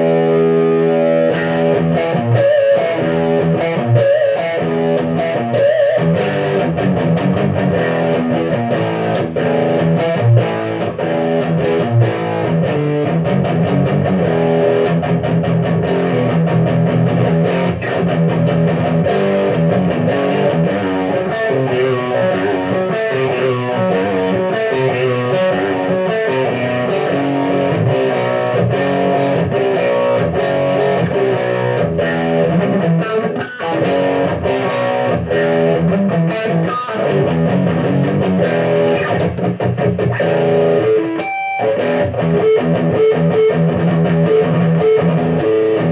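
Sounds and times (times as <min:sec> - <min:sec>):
electric guitar notes and chords: 0:00.0 - 0:45.9.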